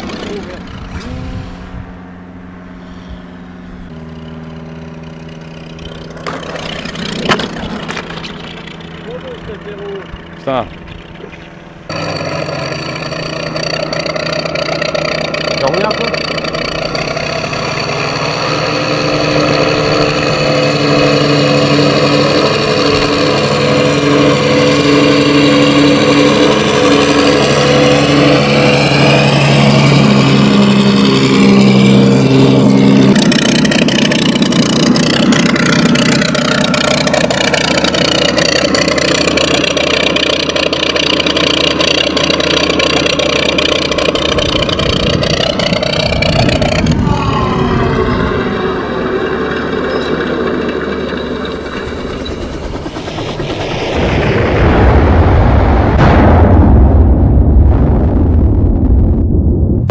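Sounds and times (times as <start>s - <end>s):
simulated engine drone from speaker: 0.0s - 54.7s
electric motor and propeller: 0.0s - 55.2s.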